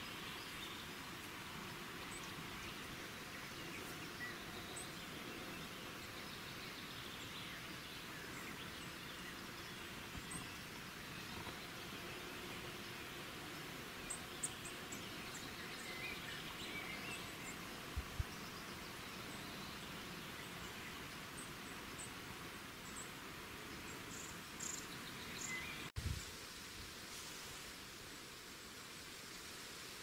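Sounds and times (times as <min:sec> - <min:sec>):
outdoor background hiss: 0:00.0 - 0:30.0.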